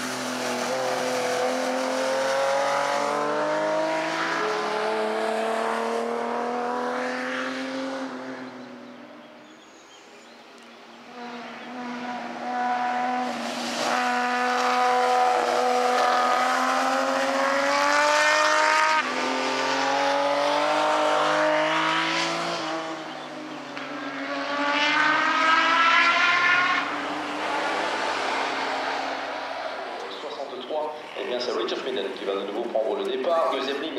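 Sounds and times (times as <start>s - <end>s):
race car engines at full throttle: 0.0s - 33.9s.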